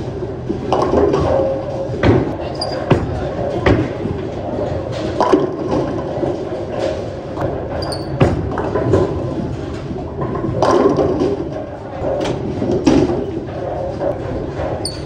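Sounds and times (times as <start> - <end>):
bowling alley din: 0.0 - 15.0
bowling ball rolling: 0.0 - 15.0
bowling pins clattering: 0.0 - 15.0.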